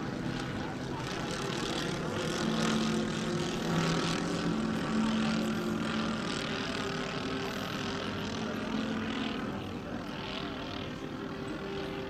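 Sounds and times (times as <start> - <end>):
model plane propeller engines droning: 0.0 - 12.0.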